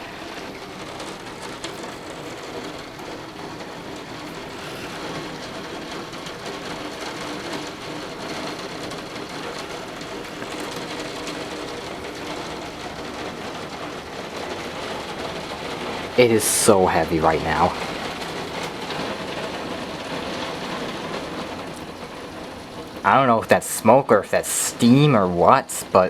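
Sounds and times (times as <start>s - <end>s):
torrential rain: 0.0s - 26.0s.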